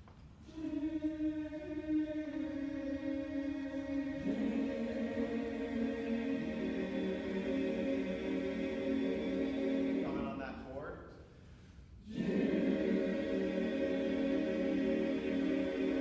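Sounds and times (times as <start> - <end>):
men's chorus singing a cappella: 0.4 - 10.8, 12.0 - 16.0.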